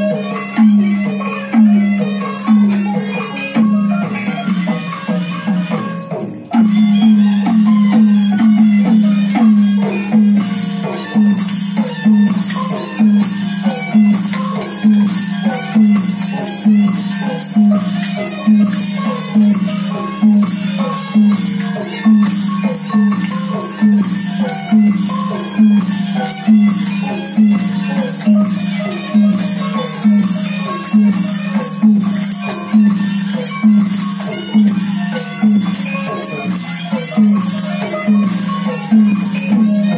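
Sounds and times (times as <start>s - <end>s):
pitched percussion melody: 0.0s - 39.9s.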